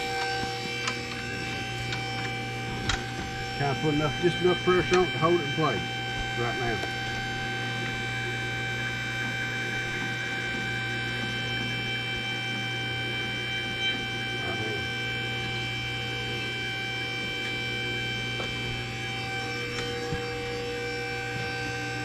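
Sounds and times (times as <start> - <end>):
higher tone: 0.0 - 22.0
hydraulic pump humming: 0.0 - 22.0.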